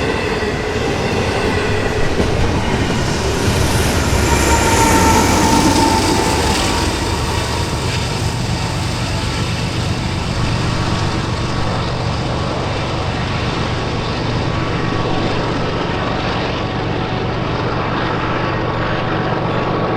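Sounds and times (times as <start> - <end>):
freight train rolling past: 0.0 - 19.9.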